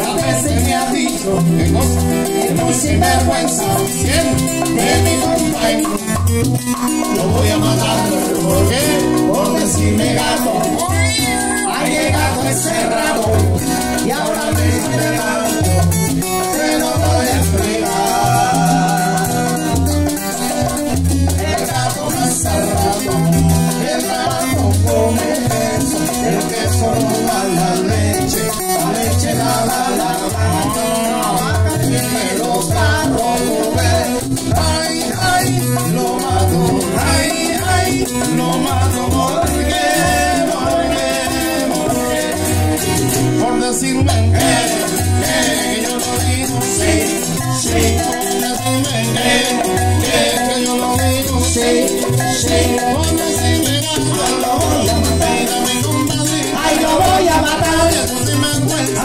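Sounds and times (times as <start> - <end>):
acoustic guitar strumming: 0.0 - 59.0
bongos: 0.0 - 59.0
deep bass line: 0.0 - 59.0
maracas shaking: 0.0 - 59.0.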